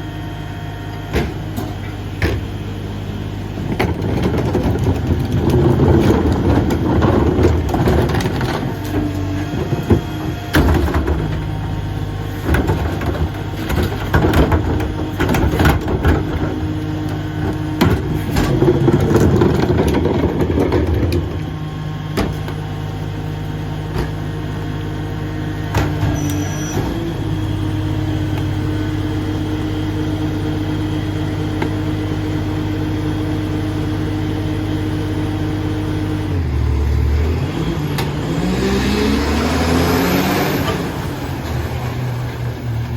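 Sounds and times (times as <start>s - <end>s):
garbage truck engine: 0.0s - 42.9s.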